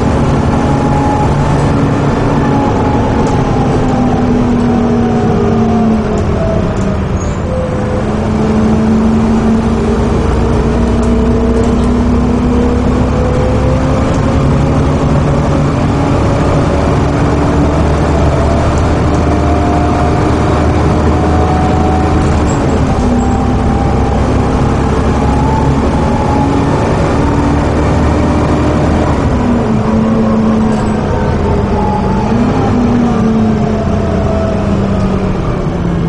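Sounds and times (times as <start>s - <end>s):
gearbox changing gear: 0.0s - 35.2s
bus engine rumbling: 0.0s - 36.0s.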